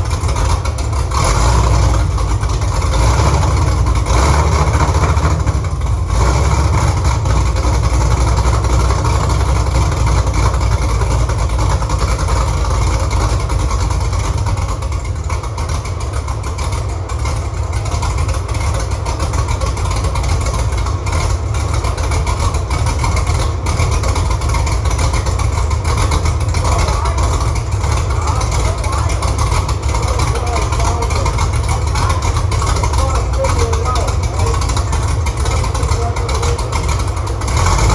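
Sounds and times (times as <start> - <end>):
engine running at idle: 0.0 - 37.9.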